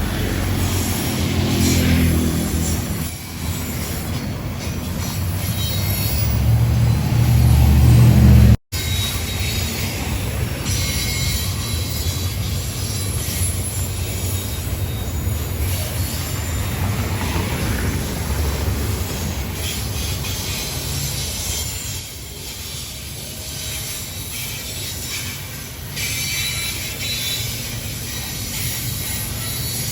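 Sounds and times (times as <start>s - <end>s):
high wheel squeal: 0.0s - 29.9s
train wheels rumbling on rails: 0.0s - 29.9s.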